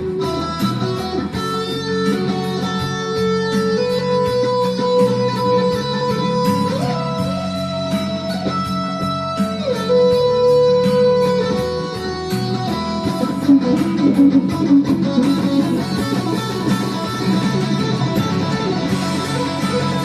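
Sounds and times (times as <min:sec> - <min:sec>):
lead guitar sliding notes: 0:00.0 - 0:20.0
steady beat: 0:00.0 - 0:20.0.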